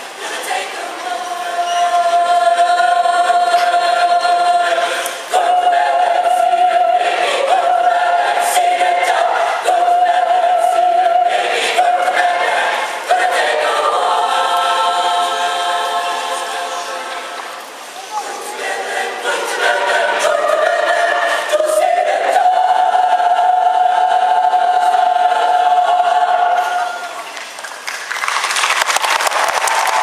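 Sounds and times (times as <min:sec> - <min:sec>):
mixed choir singing: 0:00.0 - 0:27.4.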